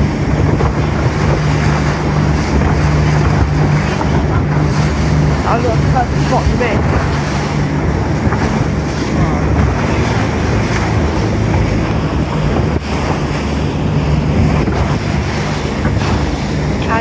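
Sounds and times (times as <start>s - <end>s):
boat engine hum: 0.0s - 17.0s
water rushing past hull: 0.0s - 17.0s
wind buffeting microphone: 0.0s - 17.0s.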